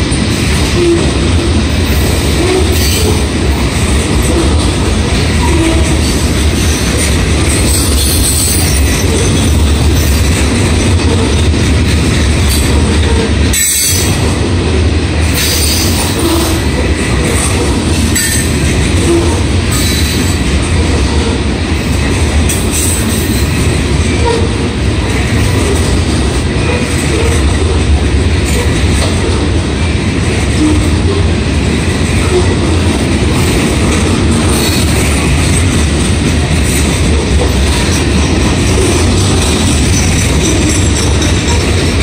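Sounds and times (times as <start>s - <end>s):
freight cars clattering: 0.0s - 42.0s
steel wheels rumbling on rails: 0.0s - 42.0s.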